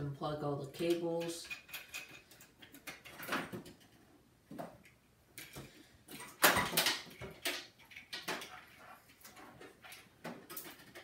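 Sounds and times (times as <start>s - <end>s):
cables clicking and rattling: 0.6s - 11.0s.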